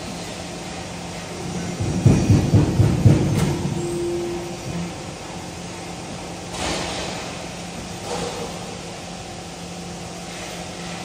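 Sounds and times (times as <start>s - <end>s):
roll forming machine humming: 0.0s - 11.0s.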